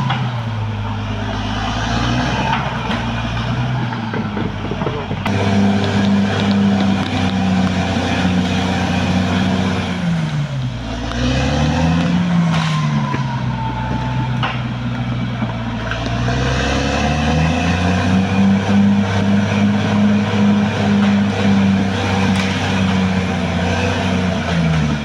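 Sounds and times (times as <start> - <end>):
bulldozer diesel engine: 0.0 - 25.0.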